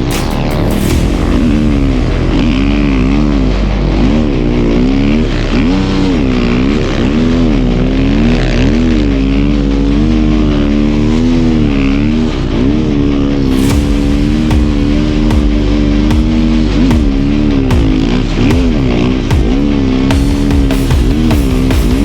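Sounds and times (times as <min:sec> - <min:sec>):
snow bike engine revving: 0:00.0 - 0:22.0.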